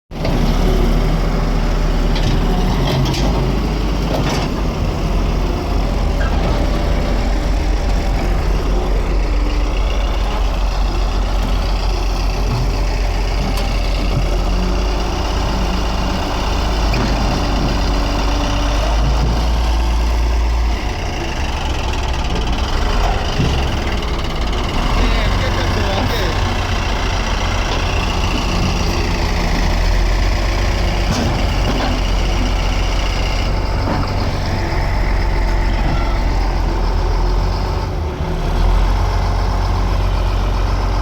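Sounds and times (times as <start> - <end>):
heavy diesel engines rumbling: 0.1 - 41.0.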